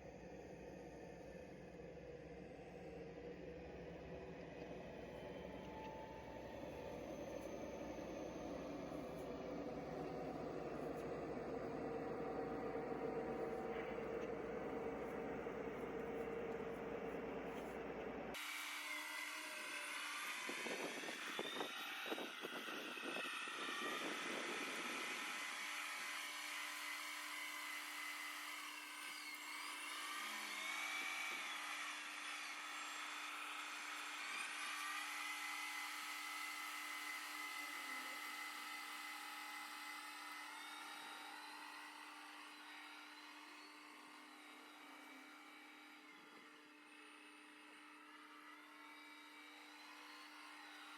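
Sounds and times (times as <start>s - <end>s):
model train motor whining: 4.6s - 50.9s.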